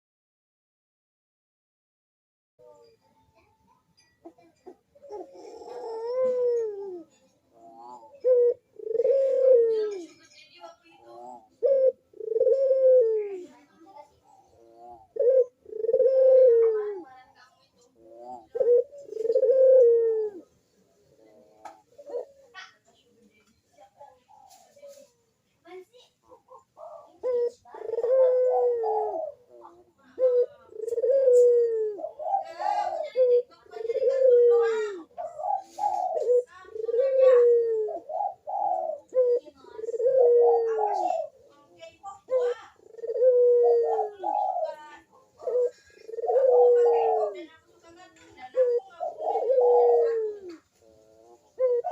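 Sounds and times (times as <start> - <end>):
dove cooing: 4.2 - 23.2, 23.8 - 25.2, 26.2 - 51.9.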